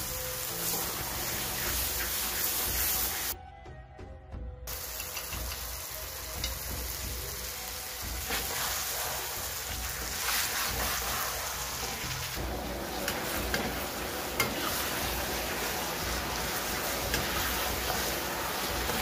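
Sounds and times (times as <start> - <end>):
vegetables sizzling in a pan: 0.0 - 3.4, 4.7 - 19.0.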